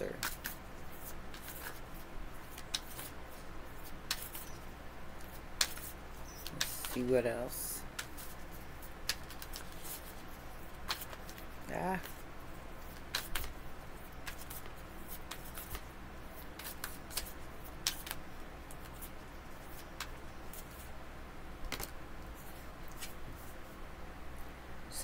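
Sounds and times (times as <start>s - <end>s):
steady low hum: 0.0s - 25.0s
cards being shuffled: 0.1s - 4.6s, 5.2s - 7.2s, 7.8s - 12.2s, 12.8s - 20.9s, 21.6s - 23.6s.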